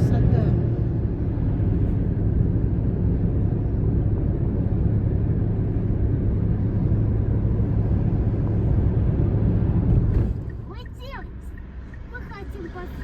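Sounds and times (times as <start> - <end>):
car cabin road and engine drone: 0.0 - 13.0.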